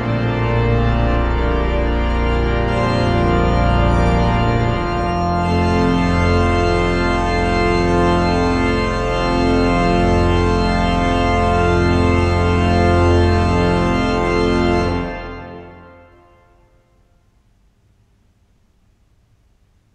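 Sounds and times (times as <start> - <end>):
pipe organ chords: 0.0 - 17.2.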